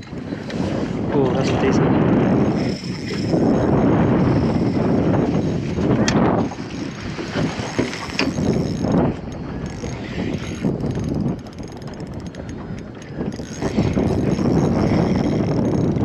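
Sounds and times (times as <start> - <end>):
fishing reel ticking: 0.0 - 16.0.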